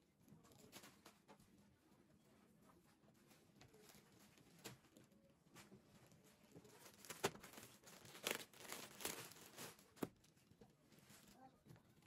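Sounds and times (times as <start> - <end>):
crinkling and rustling: 0.3 - 1.6, 2.5 - 12.0.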